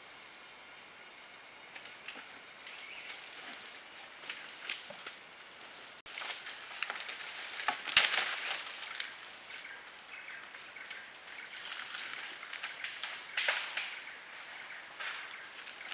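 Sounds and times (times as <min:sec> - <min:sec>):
forest background hiss: 0:00.0 - 0:15.9
leaves and twigs crackling: 0:01.4 - 0:15.9.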